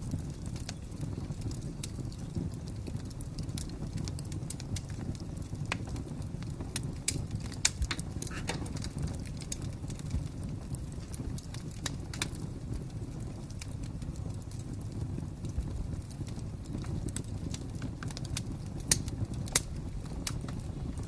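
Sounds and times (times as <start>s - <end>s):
fire crackling with pops: 0.0s - 21.0s.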